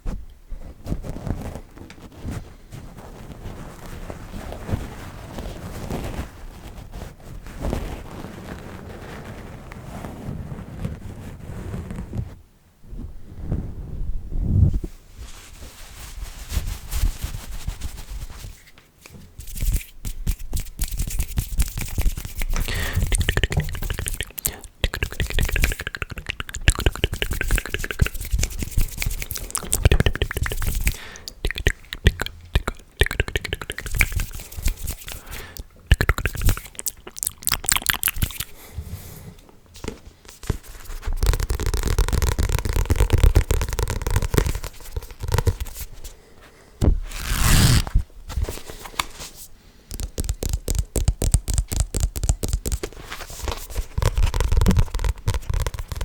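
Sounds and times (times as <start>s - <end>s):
crackling and scraping at microphone: 0.0s - 56.0s.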